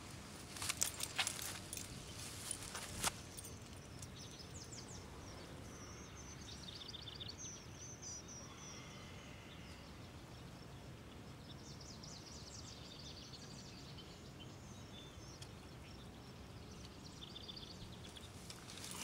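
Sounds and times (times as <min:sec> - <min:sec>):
low outdoor hiss: 0:00.0 - 0:19.0
small birds chirping: 0:00.0 - 0:19.0.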